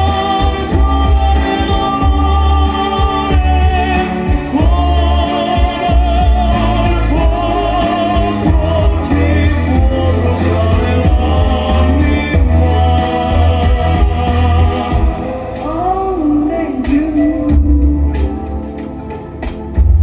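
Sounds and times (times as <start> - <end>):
heavy pulsing bass: 0.0 - 16.6.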